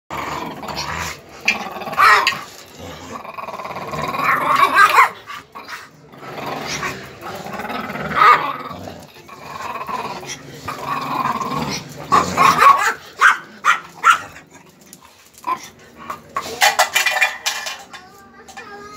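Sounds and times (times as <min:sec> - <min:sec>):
dogs growling: 0:00.1 - 0:18.9.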